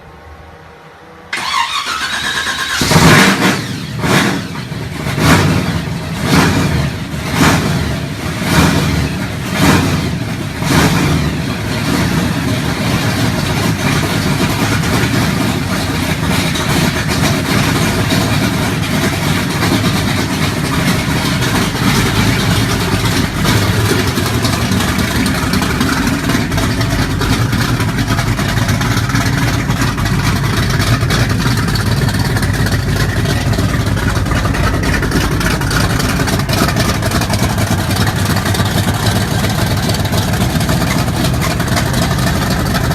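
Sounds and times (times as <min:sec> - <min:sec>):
car engine revving: 0:01.3 - 0:42.9.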